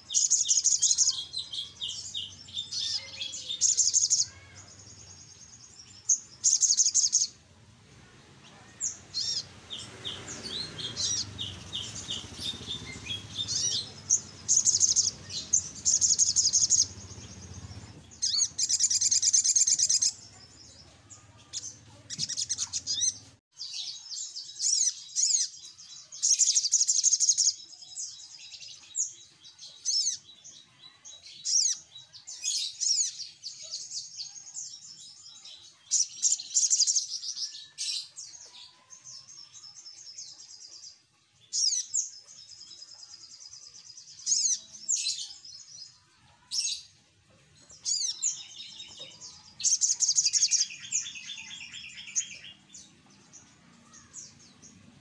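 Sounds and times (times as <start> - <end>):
sunbird high-pitched chirps and trills: 0.0 - 7.5, 8.1 - 55.0.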